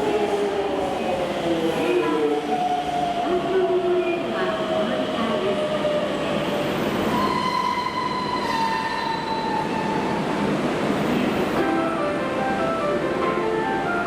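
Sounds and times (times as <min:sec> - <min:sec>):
high train whine: 0:00.0 - 0:14.0
subway train wheels rumbling: 0:00.0 - 0:14.0.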